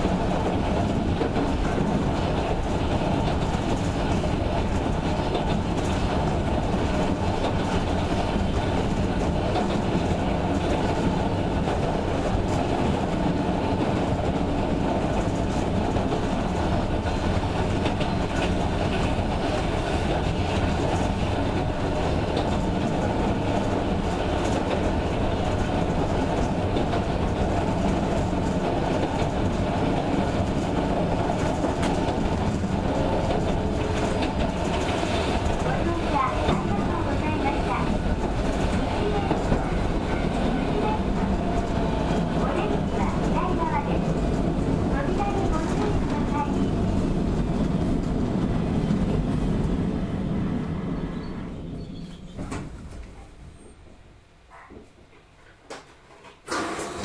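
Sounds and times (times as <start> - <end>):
electric train running on track: 0.0 - 53.9, 56.4 - 57.0.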